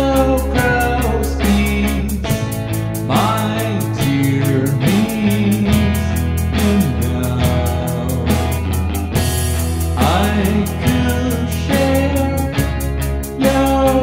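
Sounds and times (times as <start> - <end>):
man singing: 0.0 - 9.1, 9.9 - 14.0
bass guitar: 0.0 - 14.0
drums keeping a steady beat: 0.0 - 14.0
electric guitar: 0.0 - 14.0.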